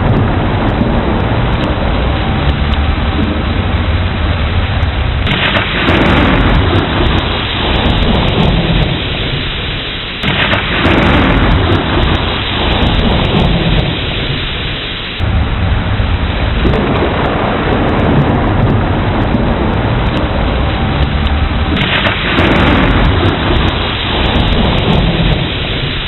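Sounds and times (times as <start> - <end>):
heavy rain: 0.0 - 26.0
rolling thunder: 0.0 - 26.0.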